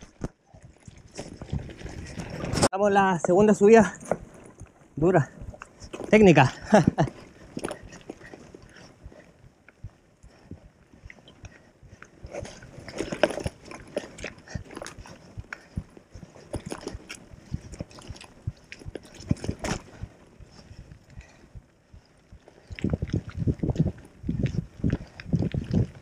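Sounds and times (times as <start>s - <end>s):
bike tyres crunching over rocks: 0.0s - 26.0s.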